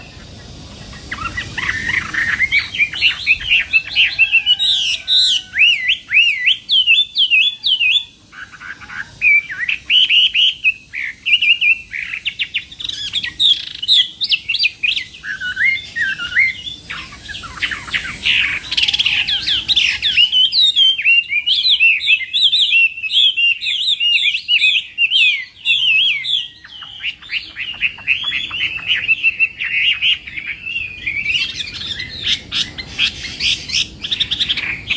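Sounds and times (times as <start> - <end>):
bird singing whistled trills: 0.0 - 34.9.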